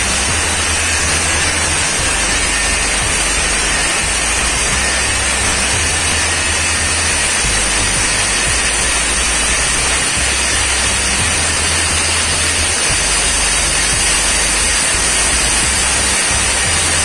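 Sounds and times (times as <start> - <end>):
angle grinder cutting metal pipe: 0.0 - 17.0.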